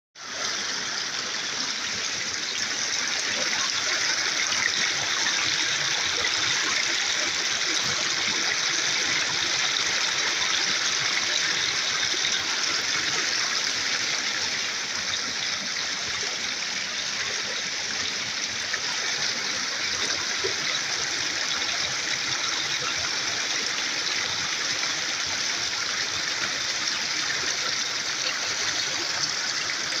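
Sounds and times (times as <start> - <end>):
water running in a stream: 0.2 - 30.0.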